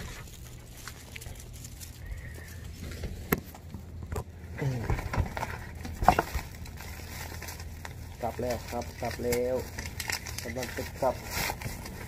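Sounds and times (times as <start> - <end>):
plastic bags rustling: 0.0 - 4.0, 4.6 - 12.0
steady low hum: 0.0 - 12.0.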